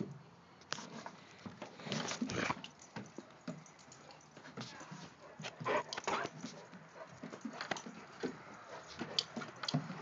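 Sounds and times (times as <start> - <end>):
paws scuffling on wooden boards: 0.8 - 10.0.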